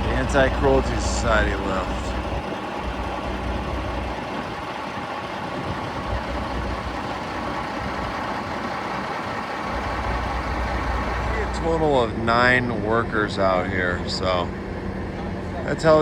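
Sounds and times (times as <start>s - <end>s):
heavy engines idling: 0.0s - 16.0s
street traffic: 0.0s - 16.0s.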